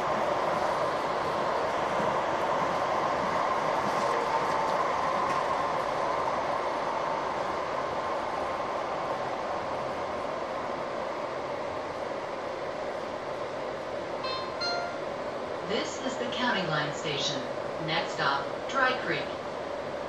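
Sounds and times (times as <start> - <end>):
train wheels rushing on rail: 0.0 - 20.0.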